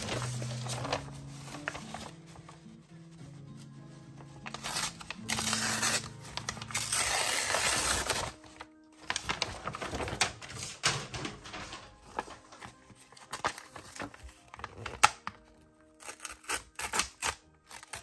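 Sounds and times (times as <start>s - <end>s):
paper and card packet crinkling: 0.0s - 2.7s, 4.2s - 18.0s.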